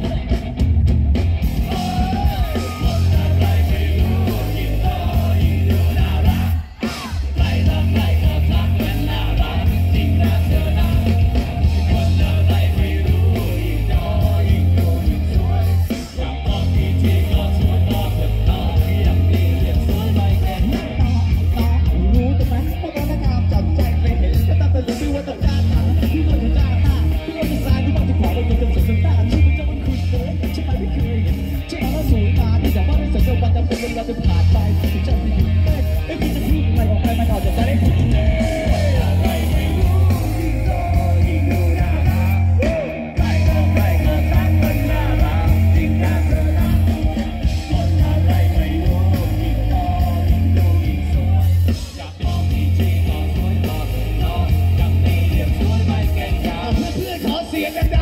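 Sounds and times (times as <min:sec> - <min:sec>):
drums: 0:00.0 - 0:58.0
electric bass: 0:00.0 - 0:58.0
electric guitar: 0:00.0 - 0:58.0
keyboard: 0:00.0 - 0:58.0
person singing: 0:01.6 - 0:58.0.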